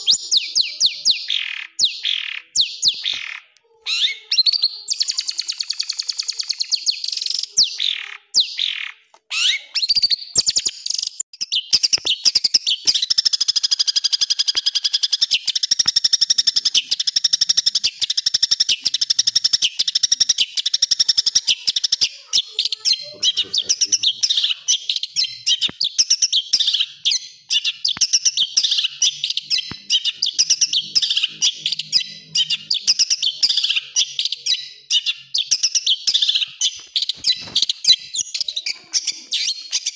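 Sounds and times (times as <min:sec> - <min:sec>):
bird singing harsh fast song: 0:00.0 - 0:39.9
rapid bird chatter: 0:00.0 - 0:39.9.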